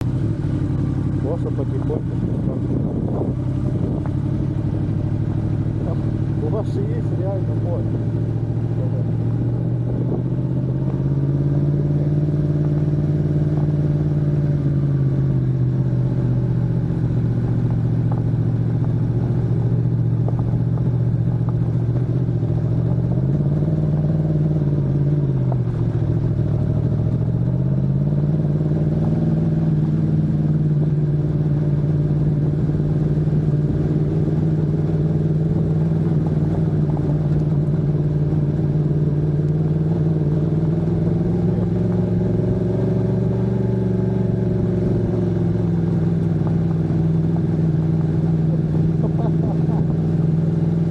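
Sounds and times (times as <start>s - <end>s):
constant low rumble: 0.0s - 50.9s
motorcycle engine running: 0.0s - 50.9s.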